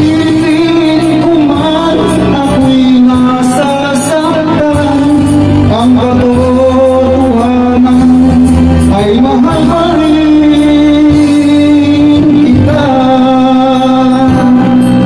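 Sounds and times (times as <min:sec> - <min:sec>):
backing track: 0:00.0 - 0:15.0
person singing ballad: 0:00.0 - 0:15.0.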